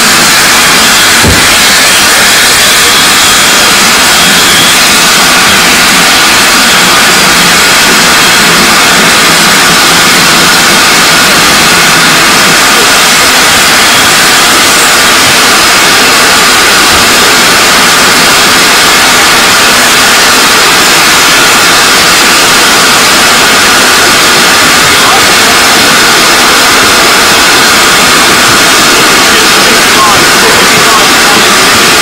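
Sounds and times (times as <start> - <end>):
steam hissing from locomotive: 0.0 - 32.0.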